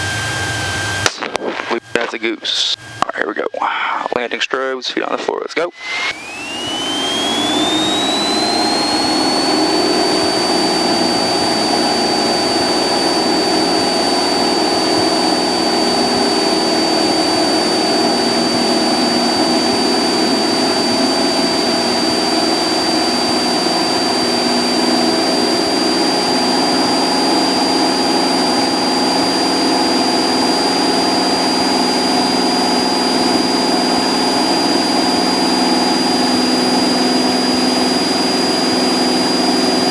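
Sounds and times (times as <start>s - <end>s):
airplane engine and propeller: 0.0s - 39.9s
high engine whine: 0.0s - 39.9s.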